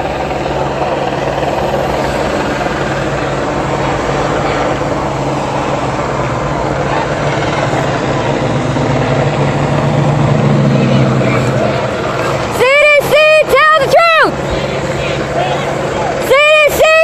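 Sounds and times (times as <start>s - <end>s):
helicopter rotors thrumming: 0.0s - 17.0s.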